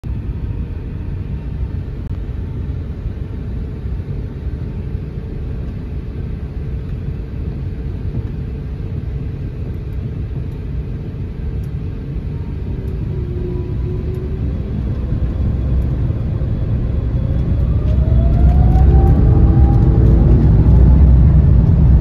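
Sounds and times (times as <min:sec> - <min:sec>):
low rumble in airliner cabin: 0:00.0 - 0:22.0.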